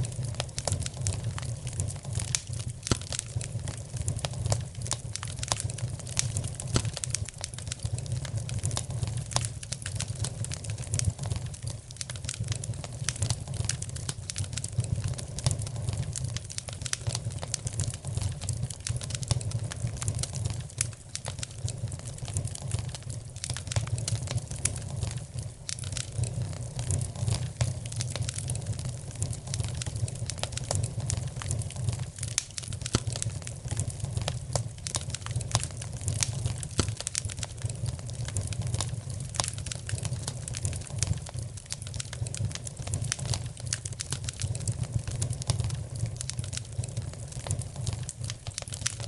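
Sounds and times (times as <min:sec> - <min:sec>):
fire crackling and popping: 0:00.0 - 0:49.0.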